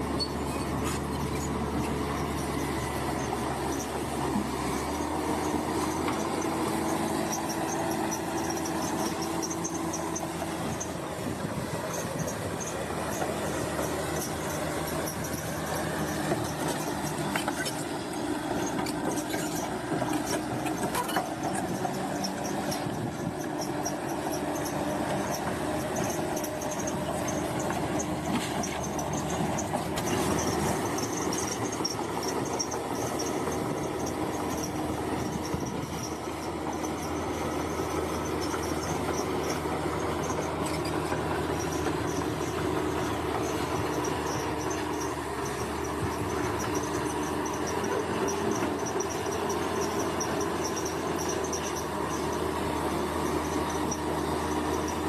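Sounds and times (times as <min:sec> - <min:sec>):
diesel engine under load: 0:00.0 - 0:55.0
steel tracks squealing: 0:00.0 - 0:55.0.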